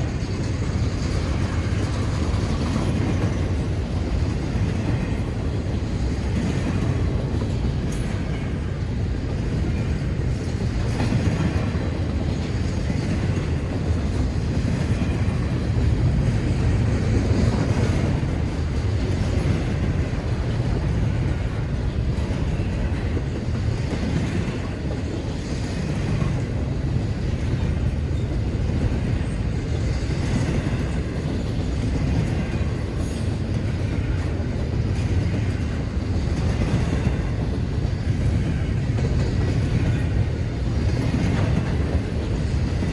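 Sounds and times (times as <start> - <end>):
faint rail clicking: 0.0 - 42.9
freight train rolling past: 0.0 - 42.9.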